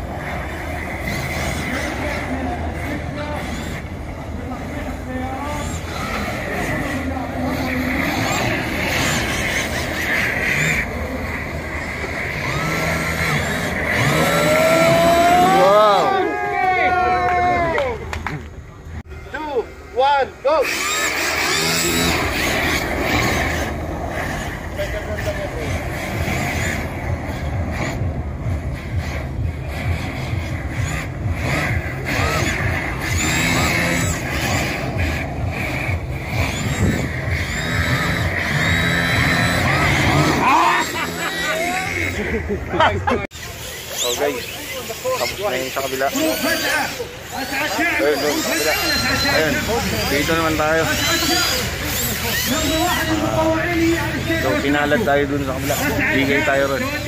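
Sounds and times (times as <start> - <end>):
electric motors whining: 0.0 - 57.0
steady noisy background: 0.0 - 57.0.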